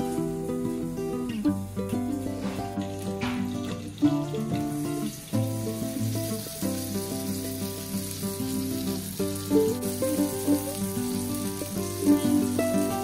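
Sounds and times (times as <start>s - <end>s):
instrumental background music: 0.0s - 13.0s
peppers sizzling in hot oil: 0.0s - 13.0s.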